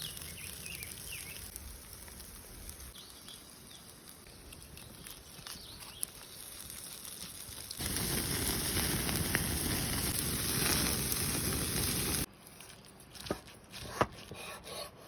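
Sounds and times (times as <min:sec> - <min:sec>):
campfire crackling: 0:00.0 - 0:12.3
meat sizzling over flames: 0:00.0 - 0:12.3.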